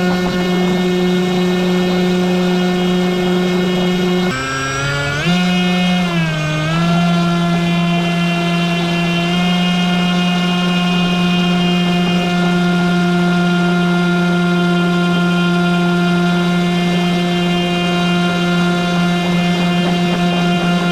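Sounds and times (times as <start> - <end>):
electric motor and propeller whining: 0.0 - 20.9.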